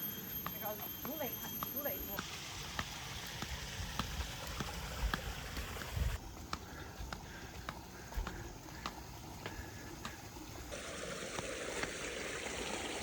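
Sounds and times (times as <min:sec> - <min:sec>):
hard-soled footsteps tapping: 0:00.4 - 0:12.0.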